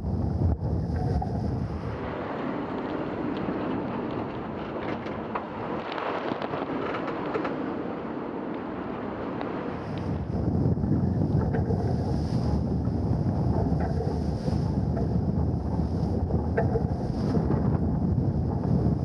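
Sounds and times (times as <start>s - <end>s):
faint crackles: 0.0s - 19.0s
strong wind rushing: 0.0s - 19.0s
water rushing around a boat: 0.2s - 19.0s.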